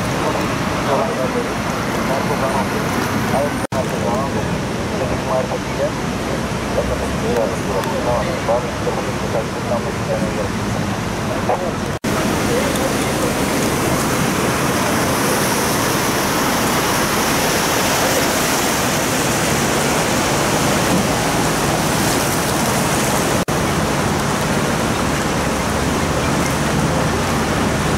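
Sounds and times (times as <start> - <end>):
heavy rain: 0.0 - 27.9
running water: 0.0 - 27.9.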